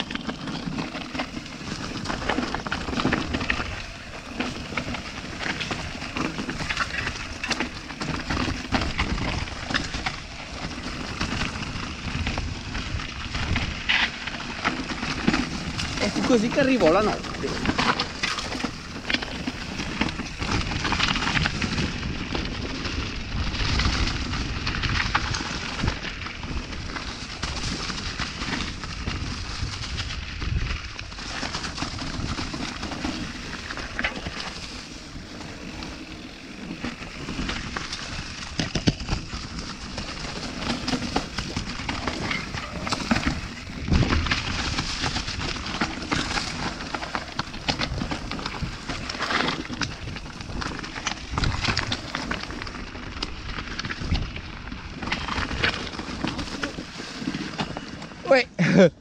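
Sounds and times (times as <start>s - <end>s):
wheels clattering on stones: 0.0s - 58.9s
bike tyre and trail rush: 0.0s - 59.0s.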